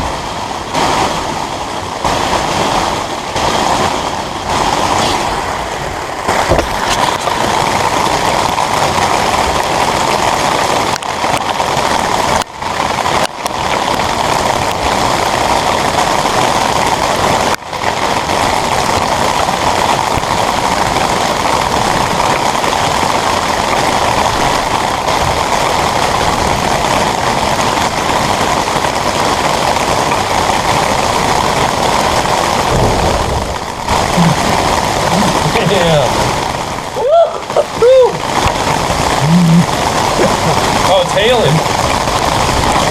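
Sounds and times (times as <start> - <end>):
heavy rain on a metal roof: 0.0 - 42.9.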